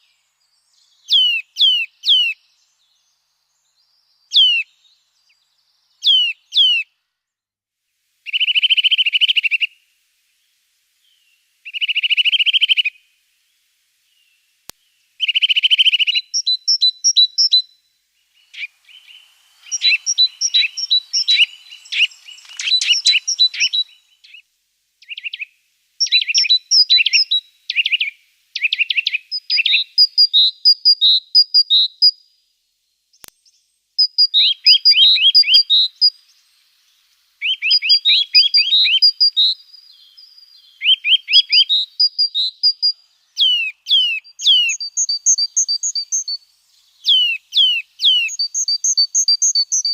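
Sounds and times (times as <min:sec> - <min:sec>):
songbirds chirping: 0:00.0 - 0:07.4, 0:08.3 - 0:49.9.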